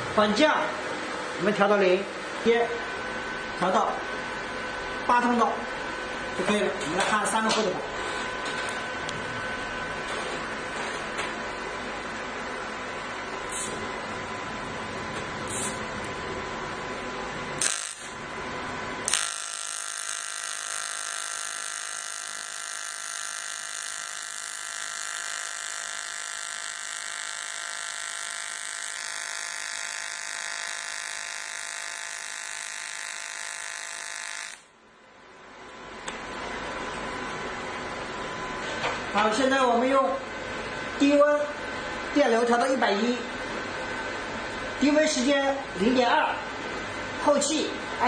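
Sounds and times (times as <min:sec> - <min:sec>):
welding arc buzzing whine: 0:00.0 - 0:48.0.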